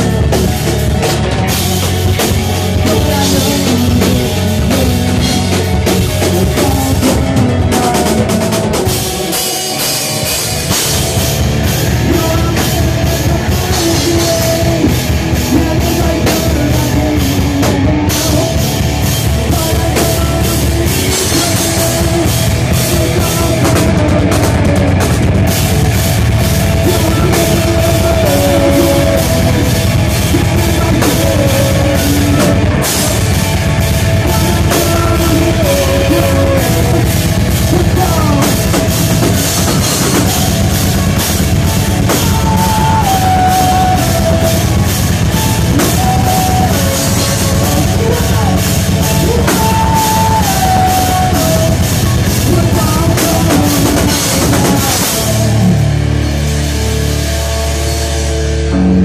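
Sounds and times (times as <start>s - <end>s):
heavy rock band playing: 0.0s - 59.0s.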